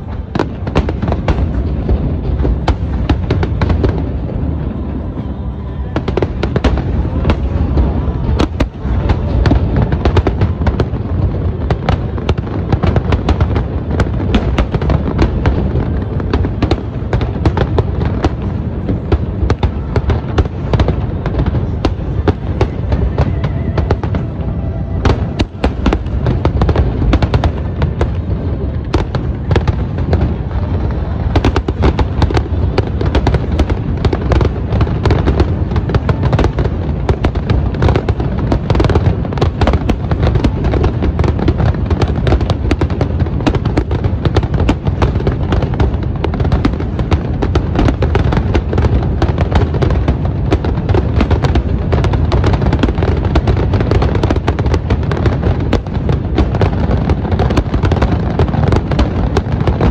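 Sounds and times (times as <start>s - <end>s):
firework crackle: 0.0s - 59.9s.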